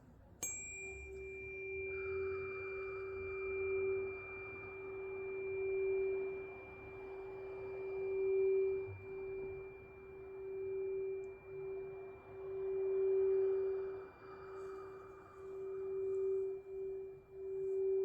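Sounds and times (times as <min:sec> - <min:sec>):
tuning fork ringing: 0:00.4 - 0:18.0.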